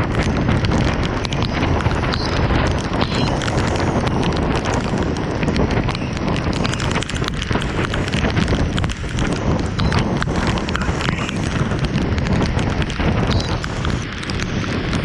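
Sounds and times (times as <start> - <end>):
heavy rain: 0.0 - 15.0
raindrops pattering close by: 0.0 - 15.0.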